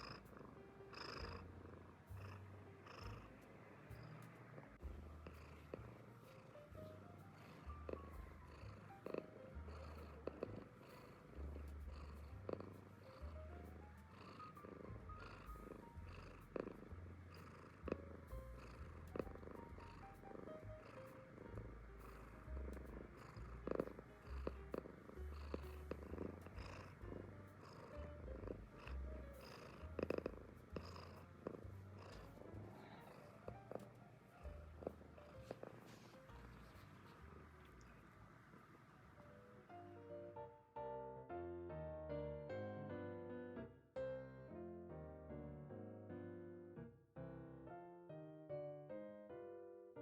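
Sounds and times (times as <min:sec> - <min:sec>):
cat purring: 0:00.0 - 0:40.7
soft background music: 0:00.0 - 0:50.0.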